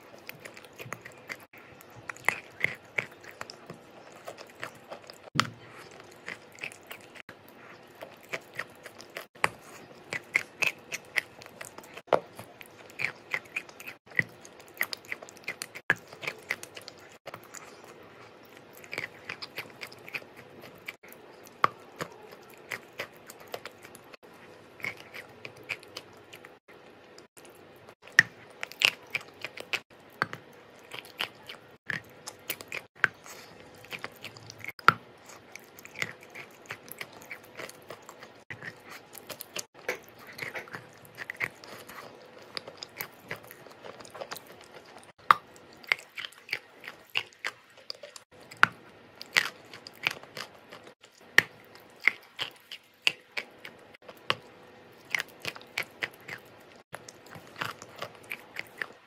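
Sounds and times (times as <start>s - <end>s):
chewing chalk with crunches: 0.0s - 59.0s.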